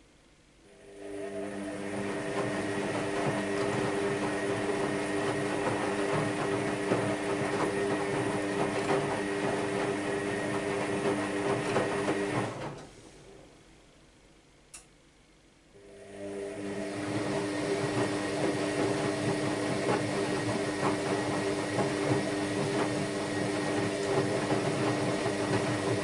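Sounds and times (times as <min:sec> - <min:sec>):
washing machine motor whine: 0:00.7 - 0:13.6, 0:15.8 - 0:26.0.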